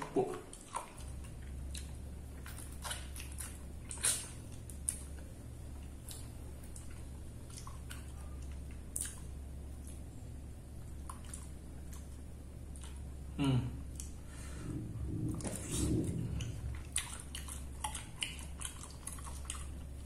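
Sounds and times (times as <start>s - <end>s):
chewing and lip-smacking: 0.0s - 14.2s, 15.2s - 20.0s
low steady hum: 0.0s - 20.0s.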